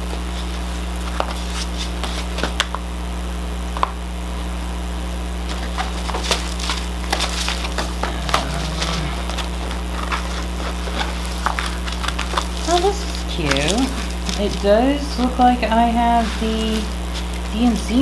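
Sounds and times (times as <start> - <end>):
plastic film crinkling: 0.0 - 2.8, 5.4 - 18.0
low hum: 0.0 - 18.0.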